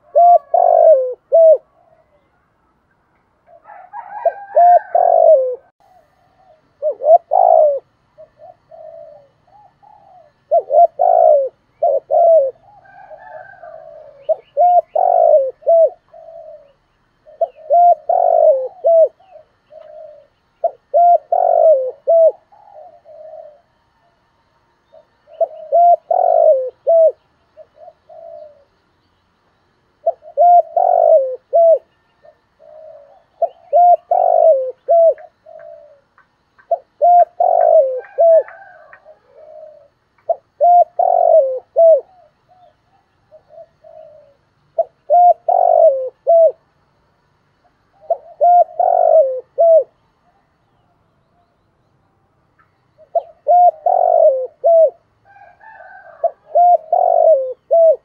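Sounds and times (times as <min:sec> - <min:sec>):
dove cooing: 0:00.0 - 0:02.5, 0:03.4 - 0:28.8, 0:29.9 - 0:46.7, 0:47.7 - 0:50.6, 0:53.0 - 0:58.0.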